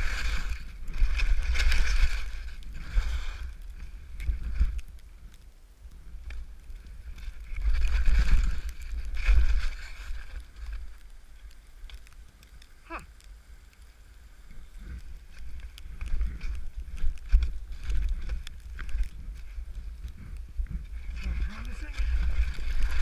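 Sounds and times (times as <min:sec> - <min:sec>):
skis hissing through powder snow: 0:00.0 - 0:05.3, 0:06.0 - 0:23.0
wind rumbling on microphone: 0:00.0 - 0:23.0.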